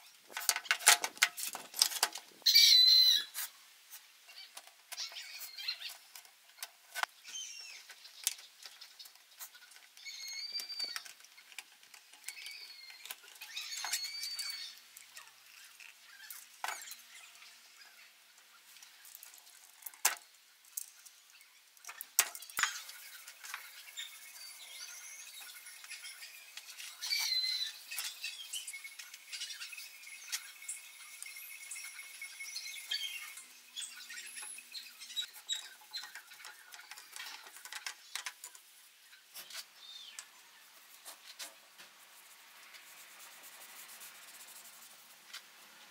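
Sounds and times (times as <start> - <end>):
small birds chirping: 2.4 - 45.1.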